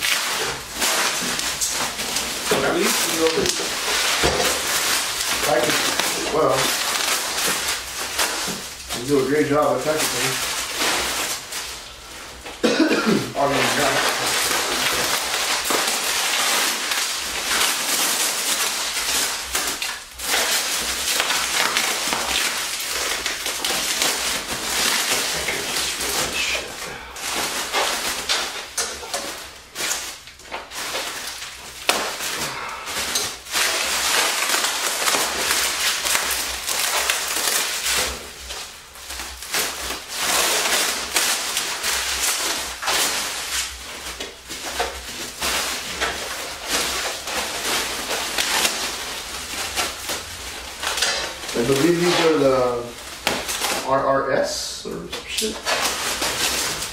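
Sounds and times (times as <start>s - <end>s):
bubble wrap crinkling: 0.0s - 56.9s.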